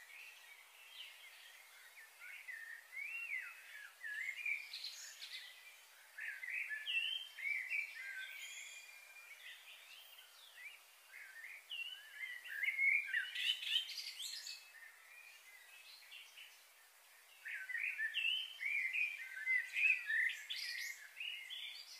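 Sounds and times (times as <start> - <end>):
faint steady hiss: 0.0 - 21.9
small birds chirping: 0.0 - 21.9.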